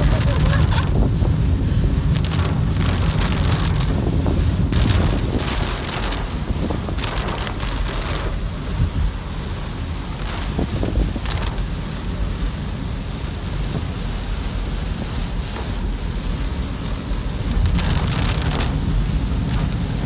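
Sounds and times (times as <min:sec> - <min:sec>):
car and tyres rumbling: 0:00.0 - 0:20.0
rain and water spray hissing: 0:00.0 - 0:20.0.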